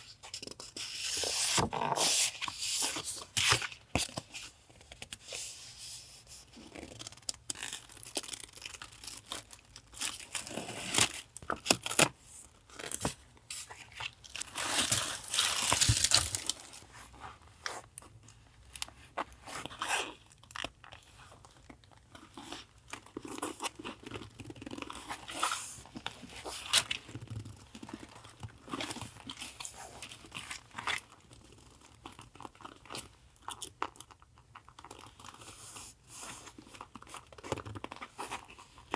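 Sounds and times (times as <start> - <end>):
paper and packaging rustling: 0.1 - 33.1.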